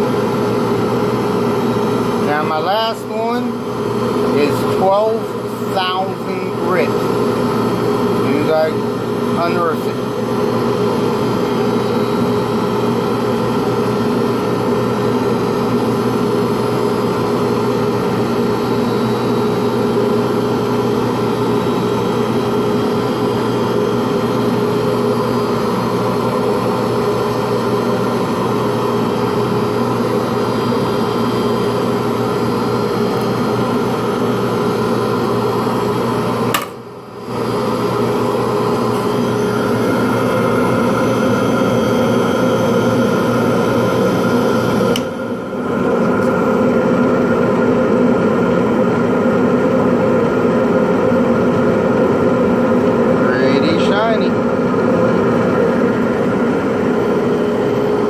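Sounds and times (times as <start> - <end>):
machine motor humming: 0.0 - 58.0.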